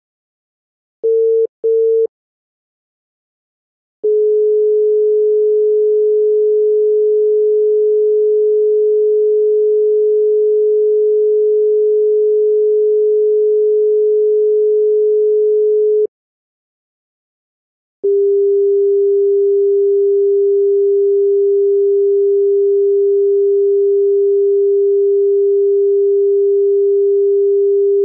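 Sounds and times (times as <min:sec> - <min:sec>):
steady low telephone tone: 0:01.0 - 0:02.1, 0:04.0 - 0:16.1, 0:18.0 - 0:28.0.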